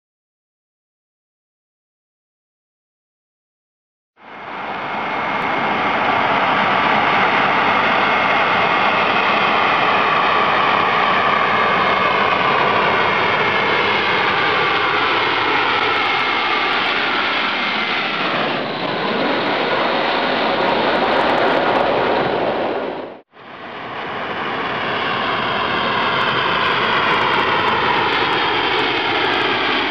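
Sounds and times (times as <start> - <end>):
jet airliner passing overhead: 4.2 - 29.9.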